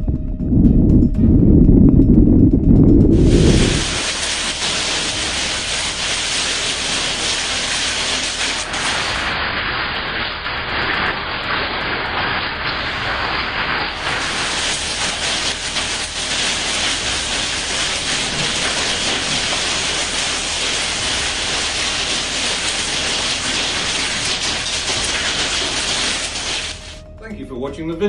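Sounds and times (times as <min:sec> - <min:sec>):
storm wind: 0:00.0 - 0:26.6
heavy rain: 0:03.2 - 0:27.0.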